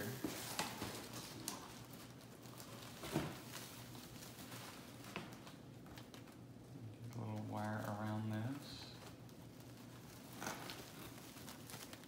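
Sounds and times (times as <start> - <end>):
ribbon rustling and crinkling: 0.0 - 12.0.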